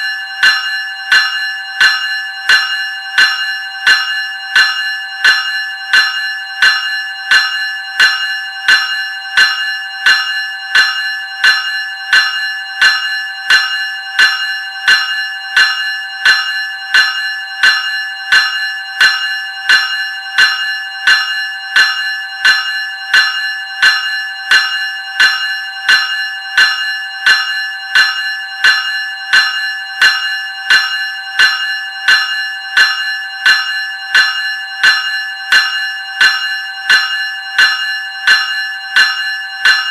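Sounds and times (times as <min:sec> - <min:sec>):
electric bell ringing: 0:00.0 - 0:39.9.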